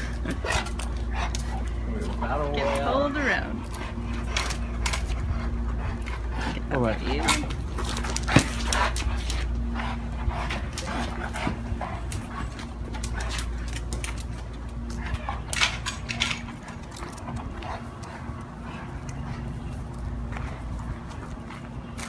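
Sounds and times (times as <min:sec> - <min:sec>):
dog footsteps on concrete: 0:00.0 - 0:22.0.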